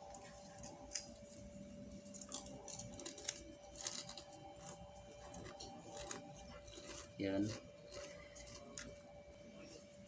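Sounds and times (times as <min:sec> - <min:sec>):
electrical tape crackling: 0:00.0 - 0:10.0
faint steady hum: 0:00.0 - 0:10.0.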